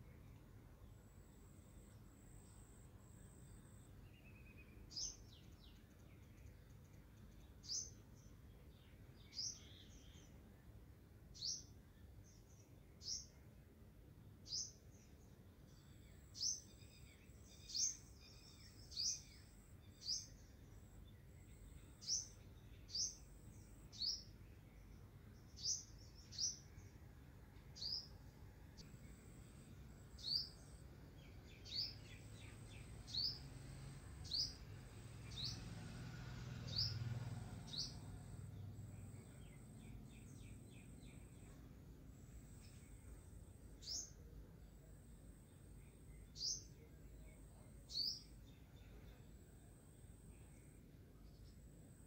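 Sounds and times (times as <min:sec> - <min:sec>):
small bird chirping: 0:01.2 - 0:10.4, 0:11.3 - 0:13.4, 0:14.4 - 0:27.0, 0:28.8 - 0:35.9, 0:36.6 - 0:44.8, 0:45.4 - 0:52.0.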